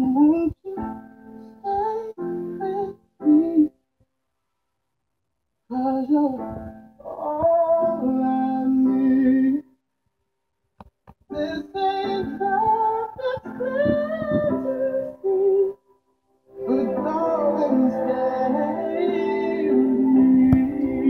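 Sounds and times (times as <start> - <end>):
music with singing: 0.0 - 3.7, 5.7 - 9.7, 11.3 - 21.0.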